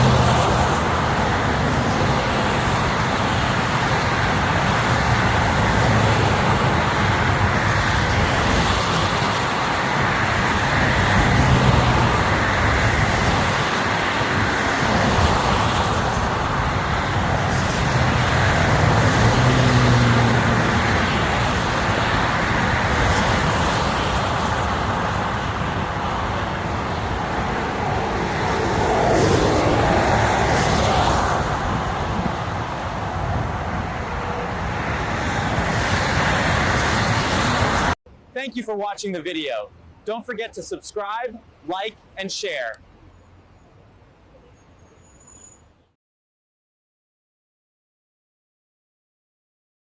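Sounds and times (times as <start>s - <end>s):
highway road noise: 0.0s - 46.0s.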